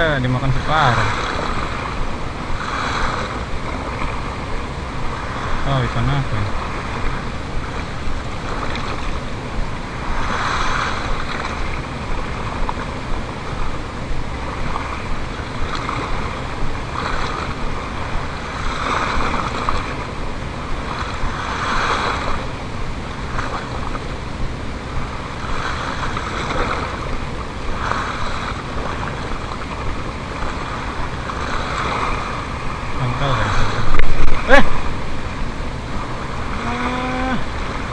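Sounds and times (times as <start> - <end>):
waves splashing against shore: 0.0 - 37.9
wind rumble on microphone: 0.0 - 37.9.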